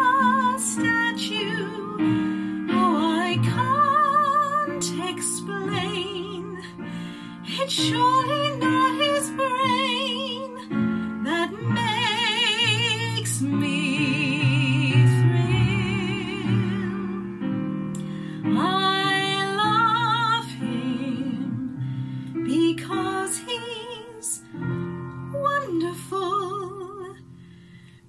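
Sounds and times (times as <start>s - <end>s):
woman singing ballad: 0.0s - 27.3s
soft instrumental accompaniment: 0.0s - 28.0s.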